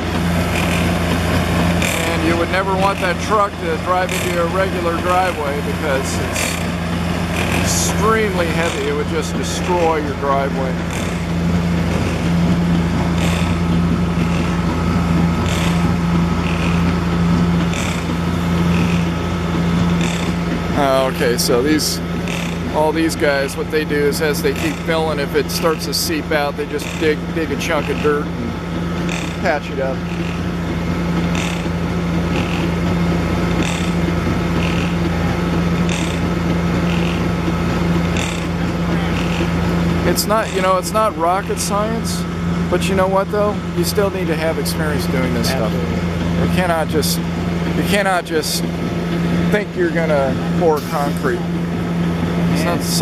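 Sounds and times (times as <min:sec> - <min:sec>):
concrete pump hissing surge: 0:00.0 - 0:53.0
diesel engine running: 0:00.0 - 0:53.0.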